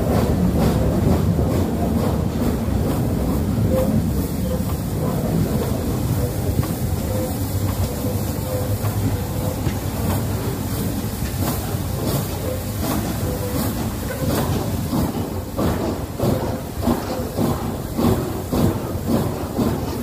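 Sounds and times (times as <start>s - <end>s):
steam train rumbling: 0.0s - 20.0s.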